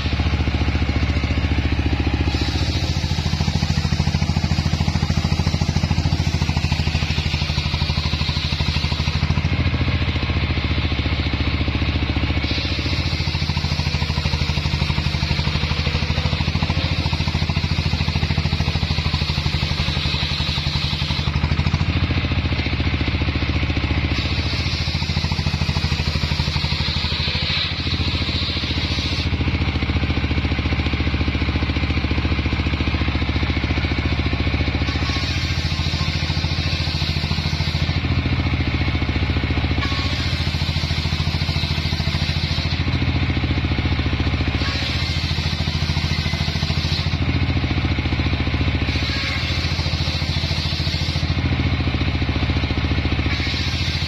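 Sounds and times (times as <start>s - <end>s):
circular saw cutting whine: 0.0s - 54.0s
diesel engine running: 0.0s - 54.0s.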